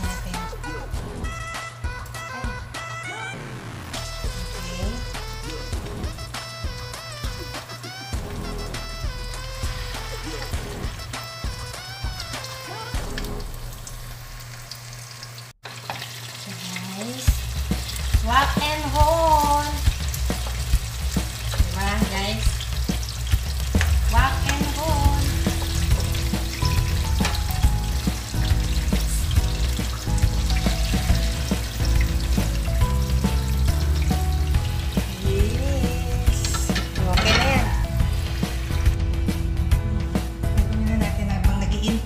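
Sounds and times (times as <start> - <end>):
food deep-frying in hot oil: 4.3 - 39.1.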